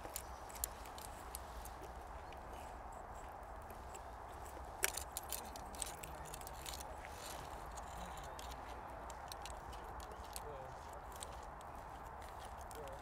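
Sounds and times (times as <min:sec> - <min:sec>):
bicycle chain clicking and rattling: 0:00.0 - 0:01.9, 0:03.8 - 0:13.0.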